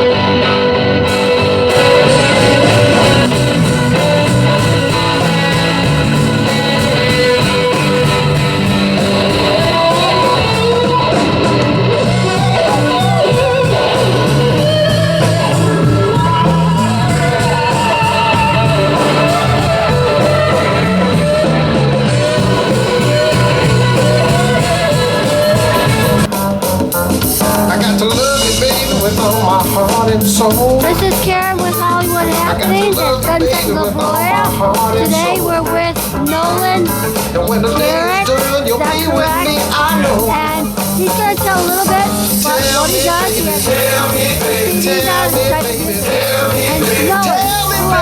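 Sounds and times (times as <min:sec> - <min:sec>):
person singing: 0:00.0 - 0:26.3, 0:27.4 - 0:48.0
live rock band with electric guitar: 0:00.0 - 0:48.0.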